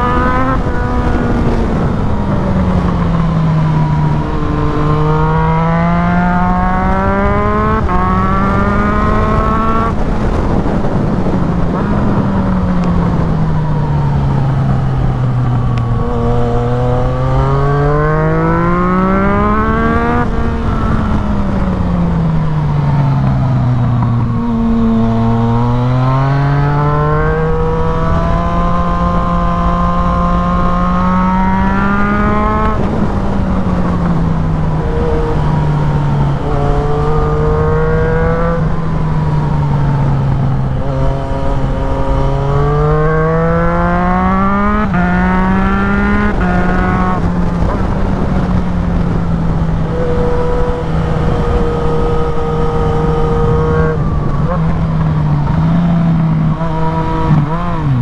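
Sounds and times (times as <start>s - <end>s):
motorcycle engine revving: 0.0s - 58.0s
wind rushing past helmet: 0.0s - 58.0s.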